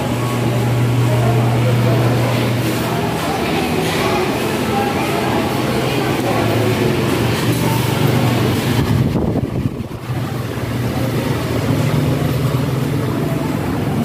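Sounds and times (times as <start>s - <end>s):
hum of vehicle engines: 0.0s - 14.0s
road noise: 0.0s - 14.0s.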